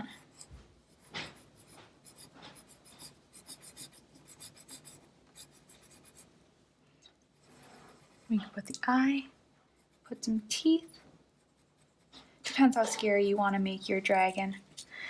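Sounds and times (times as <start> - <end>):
pencil scratching on paper: 0.0 - 6.3, 7.3 - 8.6, 9.8 - 14.8.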